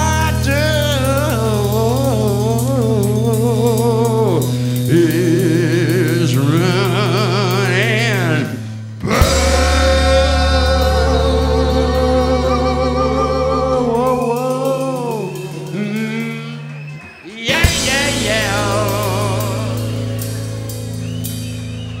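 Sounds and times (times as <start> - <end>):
man singing with vibrato: 0.0 - 20.4
acoustic guitar and band chords: 0.0 - 22.0.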